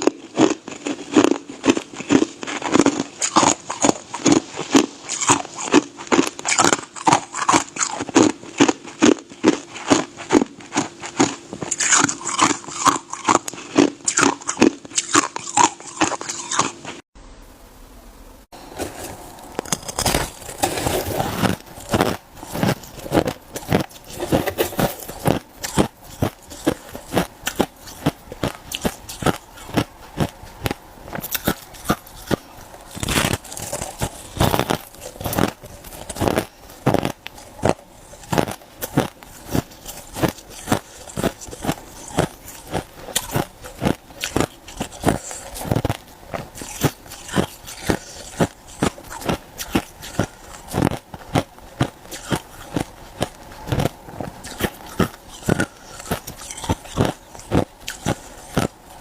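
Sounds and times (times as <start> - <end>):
person chewing ice crunches: 0.0 - 17.0, 18.8 - 59.0
crackling: 0.0 - 17.1, 18.5 - 59.0.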